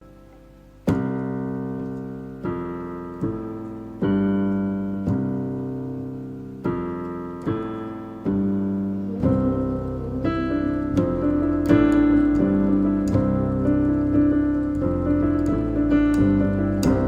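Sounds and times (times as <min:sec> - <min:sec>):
keyboard playing slow chords: 0:00.0 - 0:17.0.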